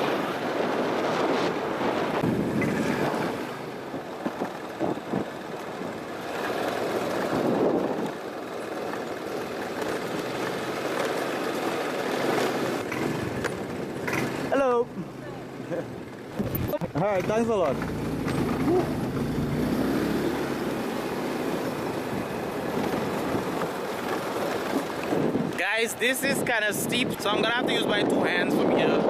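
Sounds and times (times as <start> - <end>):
wind buffeting microphone: 0.0 - 15.2, 16.2 - 29.0
moving vehicle running noise: 0.0 - 26.0.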